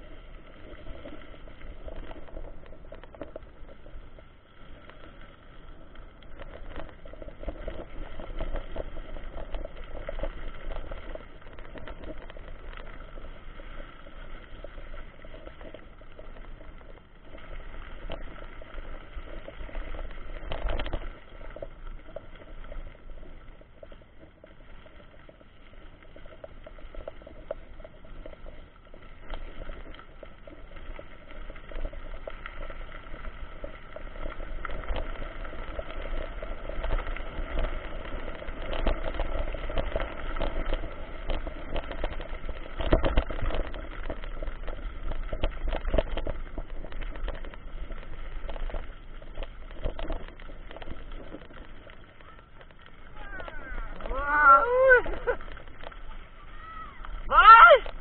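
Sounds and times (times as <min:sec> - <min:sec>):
bike tyres crunching on gravel: 0:00.0 - 0:58.0.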